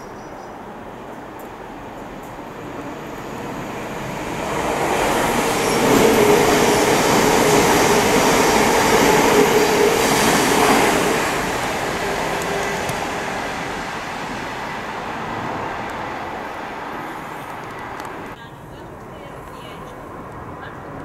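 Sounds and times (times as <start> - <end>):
constant train hum: 0.0 - 21.0
train wheels rumbling on rails: 0.9 - 18.4.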